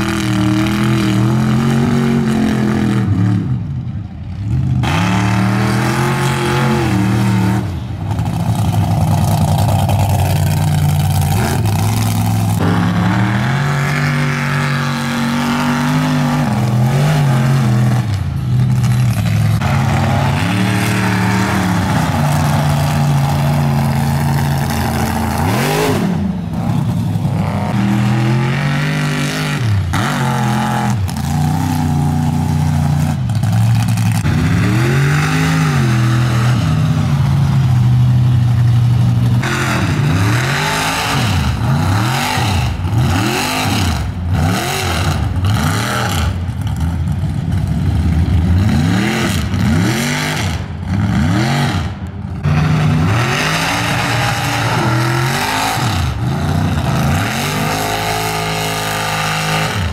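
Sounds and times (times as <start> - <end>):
truck engines revving in mud: 0.0 - 59.9.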